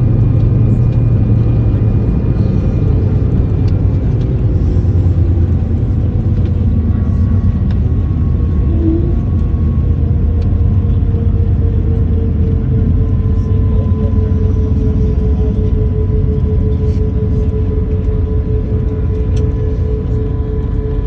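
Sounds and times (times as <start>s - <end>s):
airplane rolling rumble: 0.0s - 21.0s
jet engines whining: 0.0s - 21.0s.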